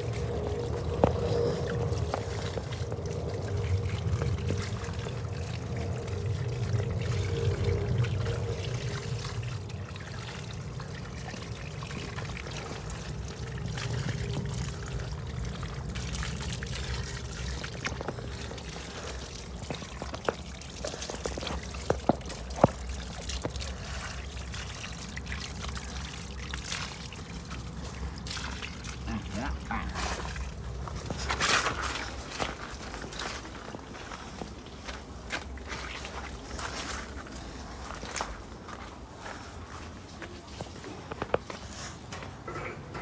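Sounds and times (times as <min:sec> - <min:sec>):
water pouring and trickling: 0:00.0 - 0:43.0.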